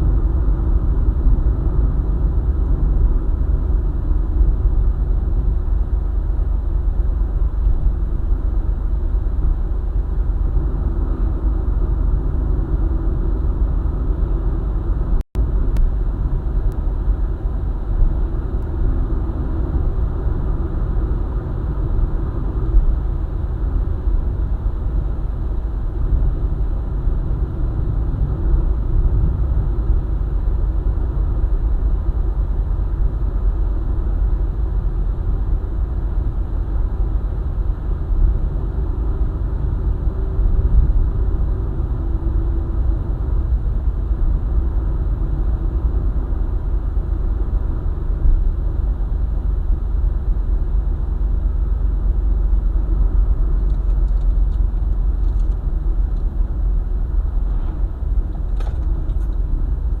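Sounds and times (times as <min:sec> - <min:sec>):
car driving road noise: 0:00.0 - 1:00.0.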